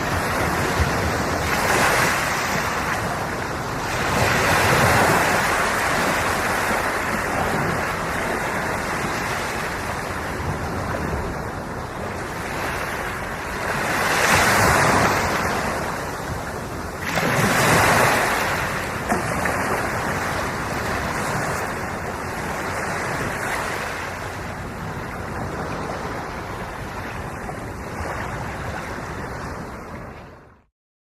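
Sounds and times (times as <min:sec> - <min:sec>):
ocean waves breaking on shore: 0:00.0 - 0:30.7
wind noise on microphone: 0:00.0 - 0:30.7.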